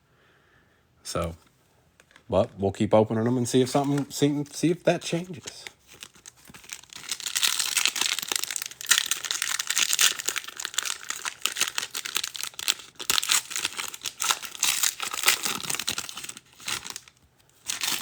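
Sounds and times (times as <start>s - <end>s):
card pack wrapper crinkling: 3.2s - 18.0s.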